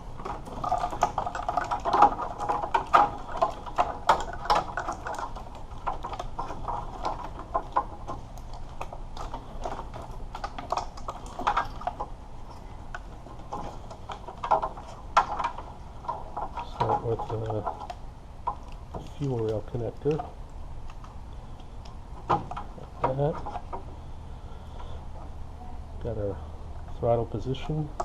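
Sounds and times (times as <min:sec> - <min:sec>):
plastic connectors and wires rattling: 0:00.0 - 0:24.0.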